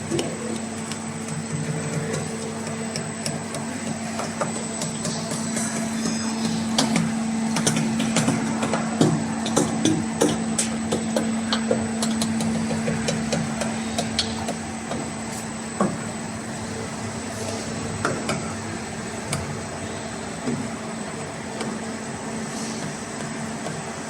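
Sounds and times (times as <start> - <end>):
bending machine humming: 0.0 - 24.0.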